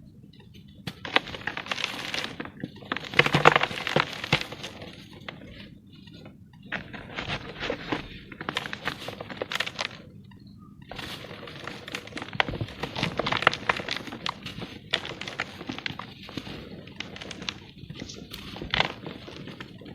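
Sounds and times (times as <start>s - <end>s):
cement lumps crumbling: 0.9s - 5.8s, 6.7s - 10.2s, 10.9s - 19.9s.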